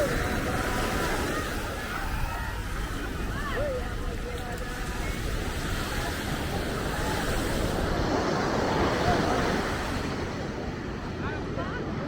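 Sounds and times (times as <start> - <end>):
wind on microphone: 0.0 - 11.8
ocean surf washing ashore: 0.0 - 12.0
voices of people: 0.0 - 12.0.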